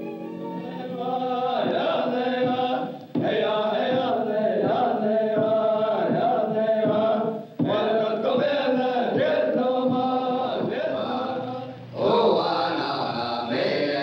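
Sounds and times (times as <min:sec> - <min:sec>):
voices chanting long notes: 0:00.0 - 0:14.0.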